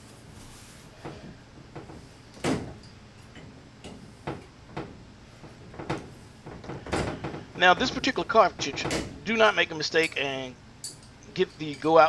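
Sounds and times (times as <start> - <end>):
tool knocks and clunks: 0.9 - 11.9.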